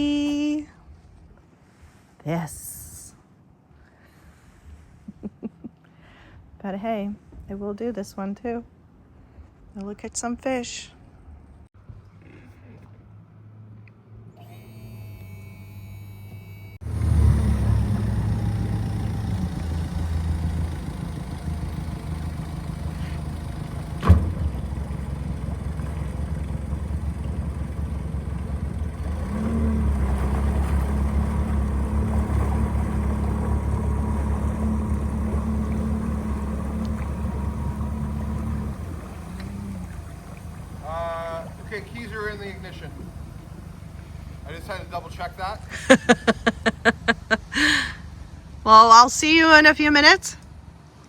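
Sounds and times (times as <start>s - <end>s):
engine low rumble: 0.0s - 51.0s.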